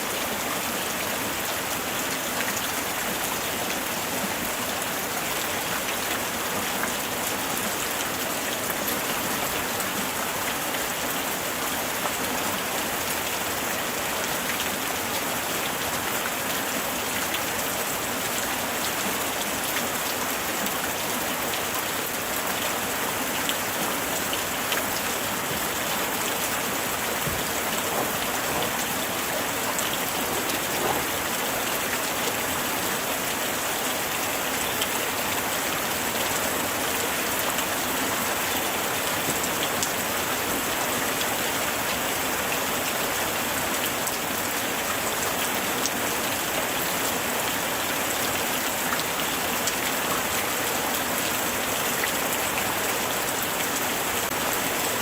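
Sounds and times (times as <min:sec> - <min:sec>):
light rain pattering: 0:00.0 - 0:55.0.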